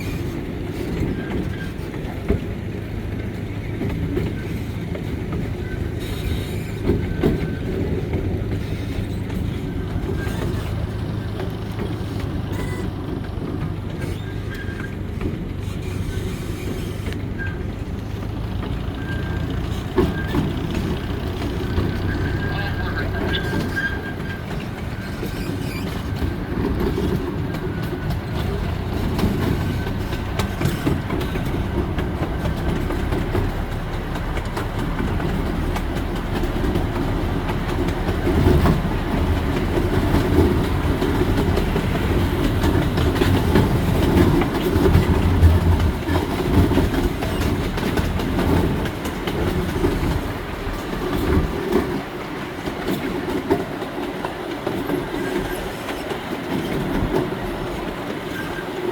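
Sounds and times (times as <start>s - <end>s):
light clicks of rails: 0.0s - 58.9s
train wheels rumbling on rails: 0.0s - 58.9s.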